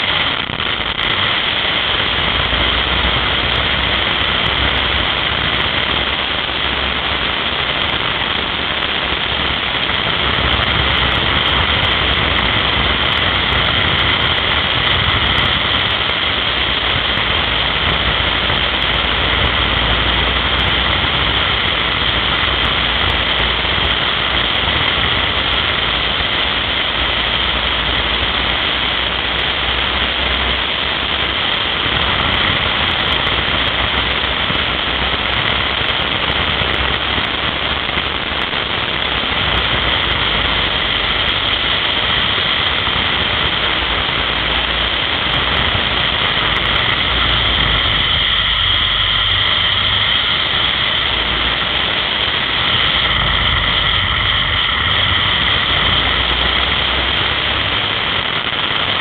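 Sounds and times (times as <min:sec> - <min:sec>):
motorcycle engine running: 0:00.0 - 0:58.2
wind and road noise: 0:00.0 - 0:59.0.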